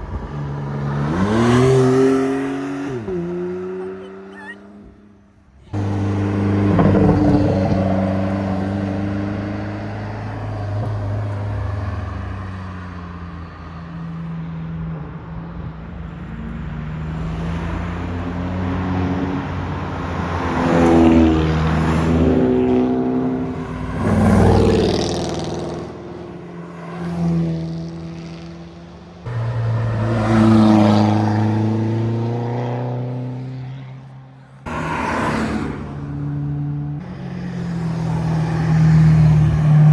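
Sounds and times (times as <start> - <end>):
car engines revving past: 0.0 - 39.9.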